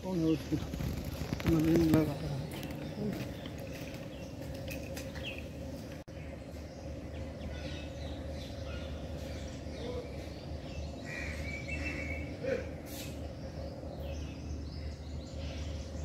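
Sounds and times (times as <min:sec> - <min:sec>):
bird chirps: 0:00.0 - 0:16.0
steady low hum: 0:00.0 - 0:16.0.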